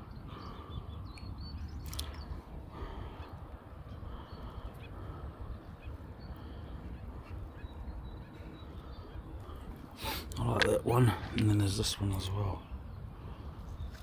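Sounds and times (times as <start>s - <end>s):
faint bird calls: 0.0s - 14.0s.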